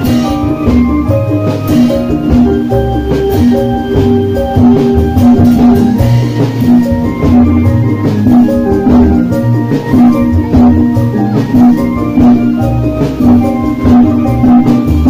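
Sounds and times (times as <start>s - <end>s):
plastic barrels beaten as drums: 0.0s - 15.0s
street music through sound system: 0.0s - 15.0s.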